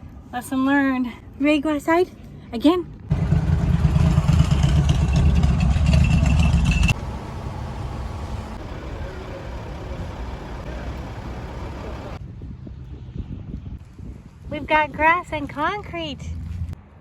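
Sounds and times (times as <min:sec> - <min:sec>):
traffic low rumble: 0:00.0 - 0:17.0.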